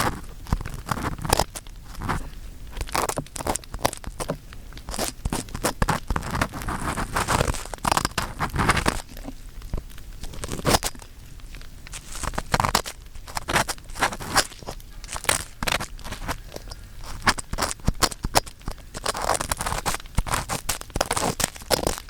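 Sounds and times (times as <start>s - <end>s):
ear pick scraping microphone: 0.0s - 22.0s.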